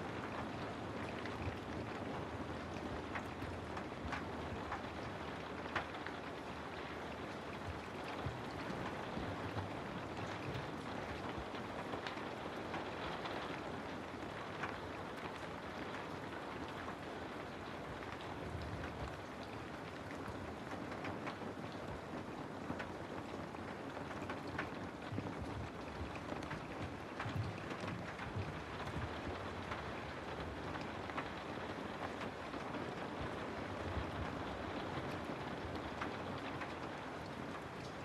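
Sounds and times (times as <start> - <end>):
steady rain patter: 0.0 - 38.0.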